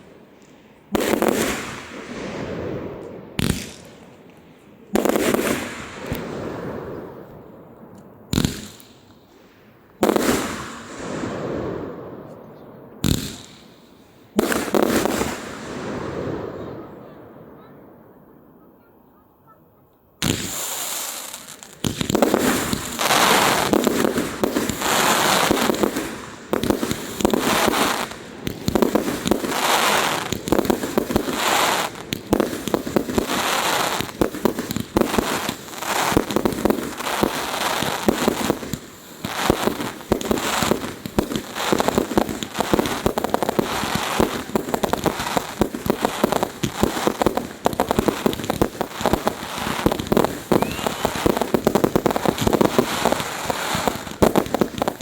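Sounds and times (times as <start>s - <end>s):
fireworks bangs and crackling: 0.0s - 18.0s, 20.2s - 55.0s.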